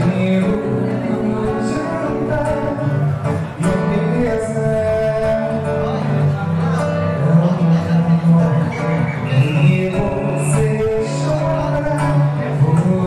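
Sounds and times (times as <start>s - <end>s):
man singing: 0.0s - 13.0s
strummed guitar: 0.0s - 13.0s.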